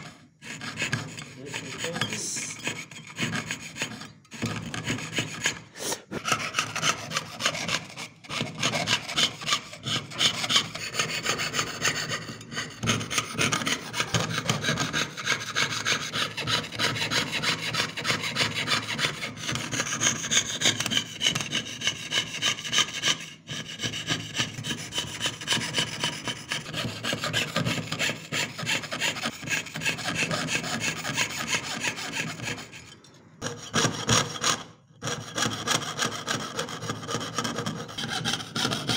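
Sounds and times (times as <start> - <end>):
saw cutting thin metal sheet: 0.0 - 38.9.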